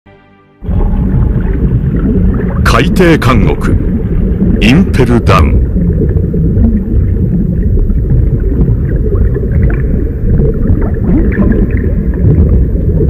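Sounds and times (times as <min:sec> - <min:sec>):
deep underwater rumble: 0:00.6 - 0:13.0.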